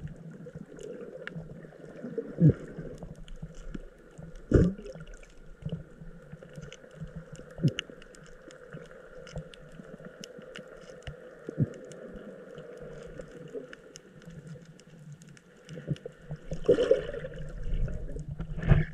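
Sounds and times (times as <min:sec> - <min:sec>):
underwater crackling clicks: 0:00.0 - 0:18.9.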